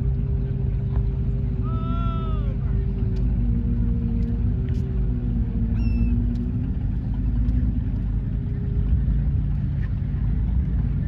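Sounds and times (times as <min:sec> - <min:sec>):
distant engine droning: 0:00.0 - 0:11.0.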